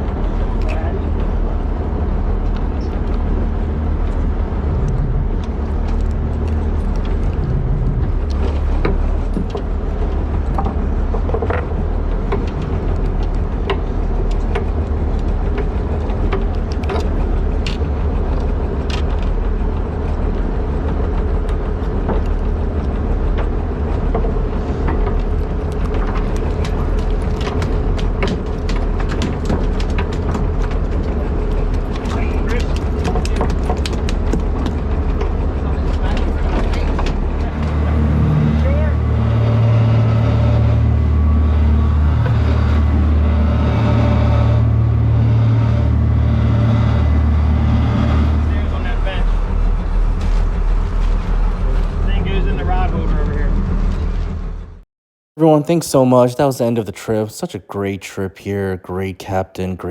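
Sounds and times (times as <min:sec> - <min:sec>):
boat engine droning: 0:00.0 - 0:54.8.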